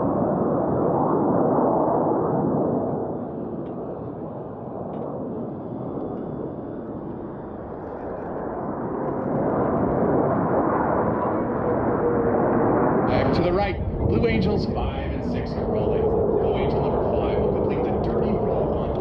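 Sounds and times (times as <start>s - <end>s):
jet engine rush: 0.0s - 19.0s.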